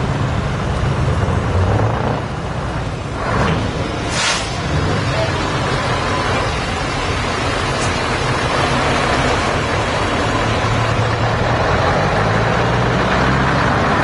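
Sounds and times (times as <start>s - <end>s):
tractor engines rumbling: 0.0s - 14.0s.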